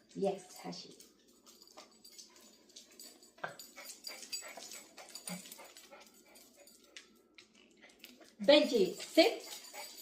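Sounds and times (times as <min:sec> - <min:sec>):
dog clicks and rustles: 0:00.0 - 0:10.0.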